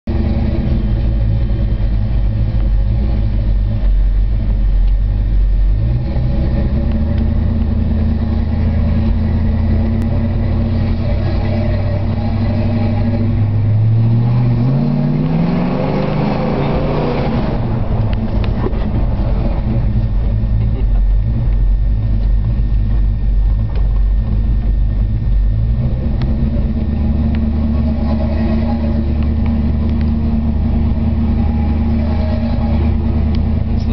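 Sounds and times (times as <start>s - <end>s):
car engine while driving: 0.0s - 33.9s.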